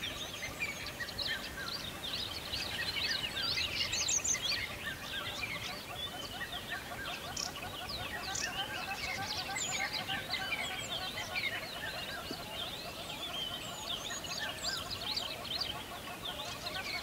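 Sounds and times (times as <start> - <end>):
chorus of birds chirping: 0.0 - 17.0.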